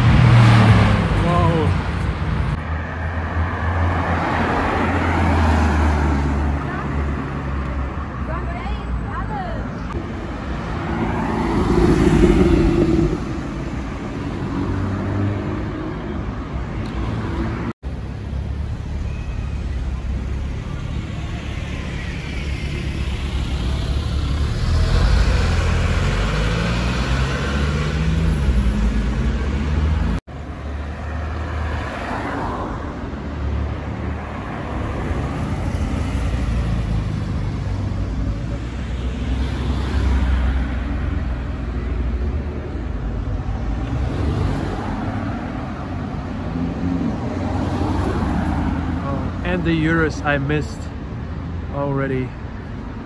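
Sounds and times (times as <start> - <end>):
engines passing: 0.0 - 53.0
traffic noise: 0.0 - 53.0.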